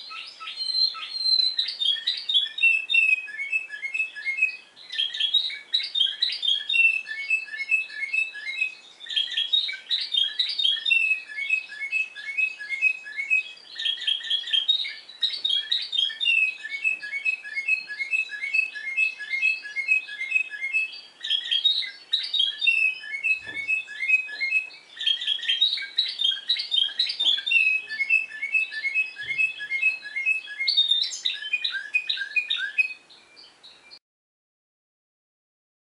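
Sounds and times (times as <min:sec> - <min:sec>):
canary singing: 0:00.0 - 0:34.0.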